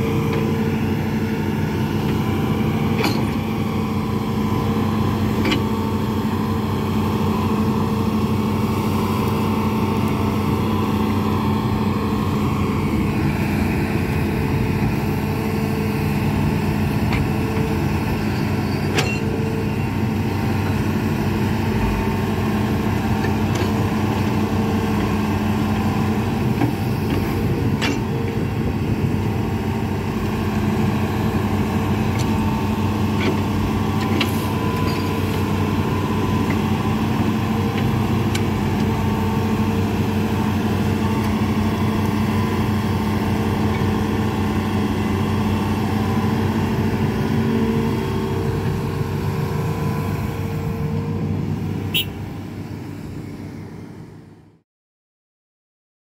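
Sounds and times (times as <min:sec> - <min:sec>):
excavator diesel engine running: 0:00.0 - 0:54.5.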